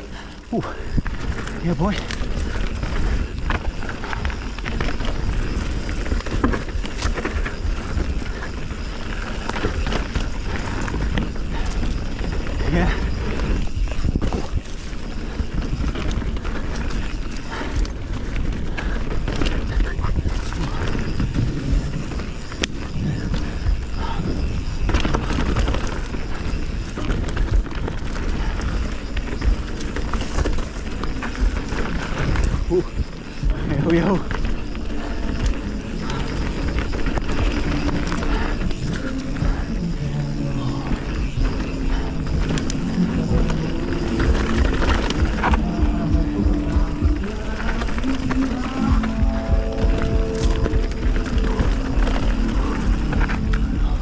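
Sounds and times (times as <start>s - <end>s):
bike chain and frame rattling: 0.0s - 54.0s
bike tyres skidding on dirt: 0.0s - 54.0s
wind buffeting microphone: 0.0s - 54.0s.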